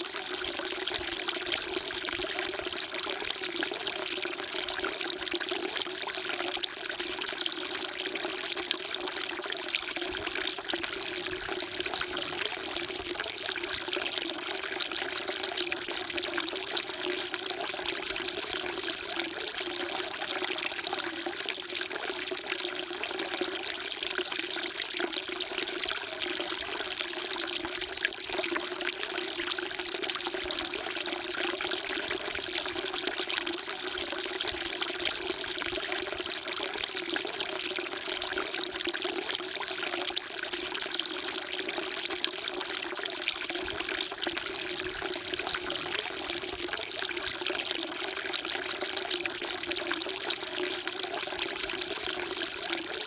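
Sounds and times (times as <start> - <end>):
water pouring into basin: 0.0 - 53.0.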